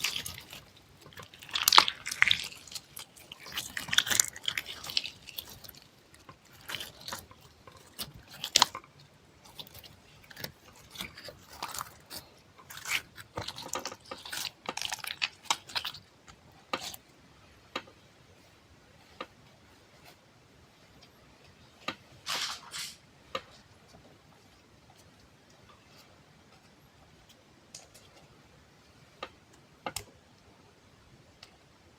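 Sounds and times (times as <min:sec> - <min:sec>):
soft squishes and crunches: 0:00.0 - 0:30.6.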